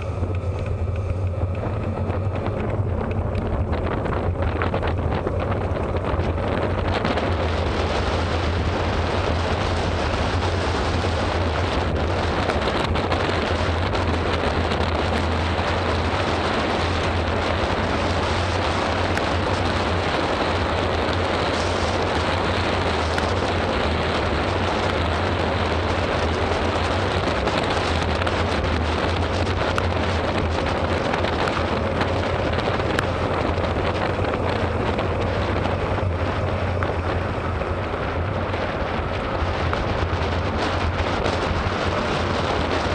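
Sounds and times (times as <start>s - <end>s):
wind rumbling on microphone: 0.0s - 42.9s
rain hissing on wet road: 6.1s - 42.9s.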